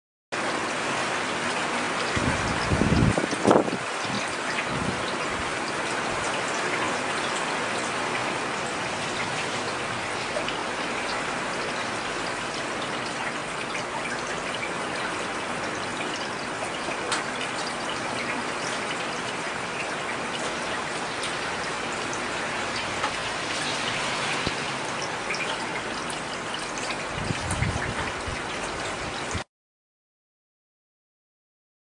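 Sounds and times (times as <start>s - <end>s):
heavy rain falling: 0.4s - 29.5s.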